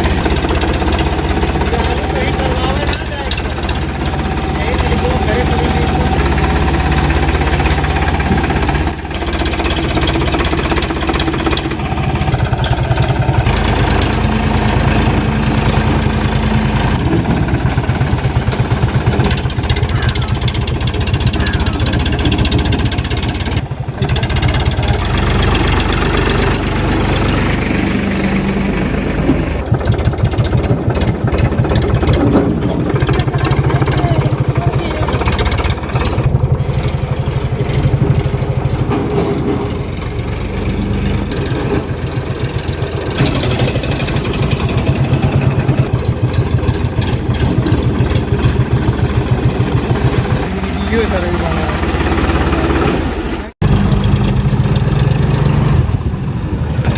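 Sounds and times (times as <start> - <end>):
tractor diesel engine clattering: 0.0 - 56.9.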